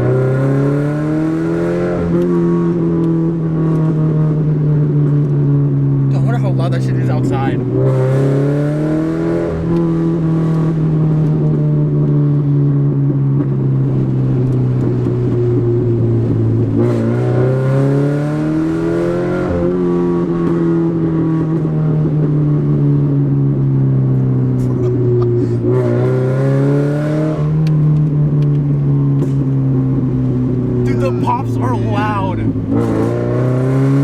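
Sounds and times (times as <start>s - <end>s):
loud car engine driving: 0.0s - 34.0s.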